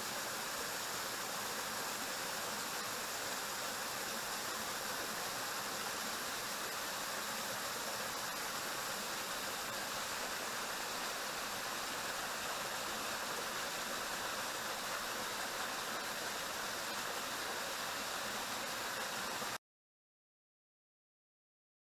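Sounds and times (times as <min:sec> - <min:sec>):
waterfall roaring: 0:00.7 - 0:19.6.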